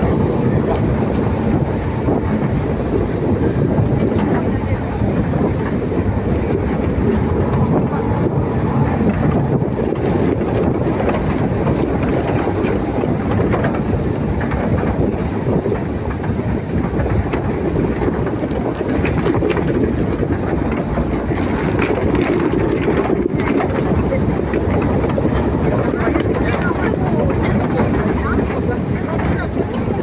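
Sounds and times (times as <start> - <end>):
faint rattles and clatter: 0.0 - 30.0
vehicle rumbling: 0.0 - 30.0.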